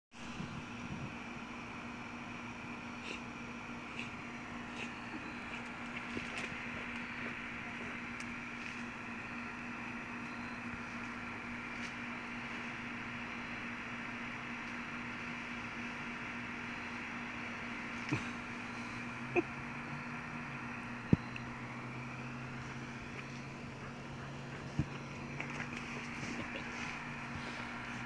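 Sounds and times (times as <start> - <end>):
steady mechanical hum: 0.2 - 28.0.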